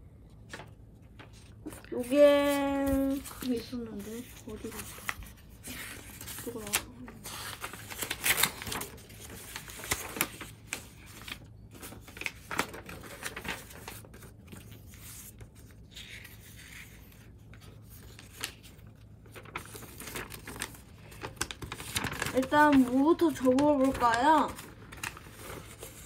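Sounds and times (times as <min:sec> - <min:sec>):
paper rustling and crackling: 0:00.4 - 0:26.0.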